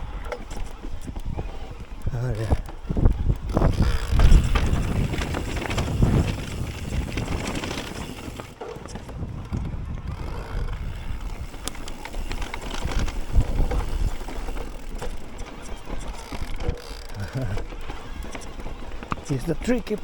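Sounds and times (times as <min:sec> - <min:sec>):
bike tyres rolling on dirt: 0:00.0 - 0:20.0
wind buffeting microphone: 0:00.0 - 0:20.0
bike rattling and knocking: 0:02.0 - 0:20.0.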